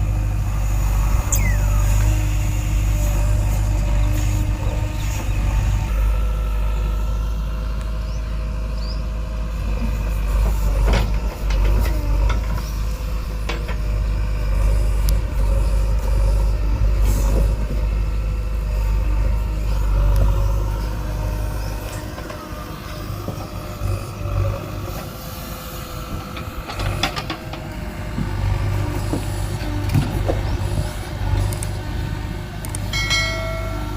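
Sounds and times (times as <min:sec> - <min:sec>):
backhoe diesel engine running: 0:00.0 - 0:33.9.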